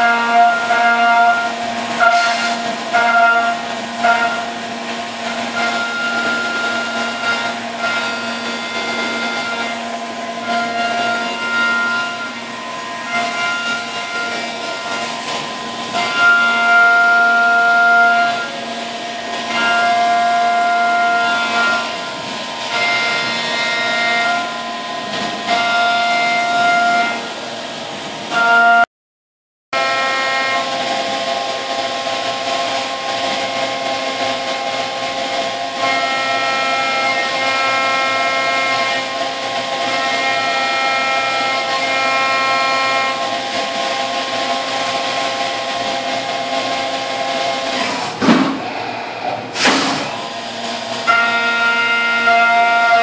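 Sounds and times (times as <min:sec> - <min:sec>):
mill cutting whine: 0:00.0 - 0:28.8, 0:29.8 - 0:53.0.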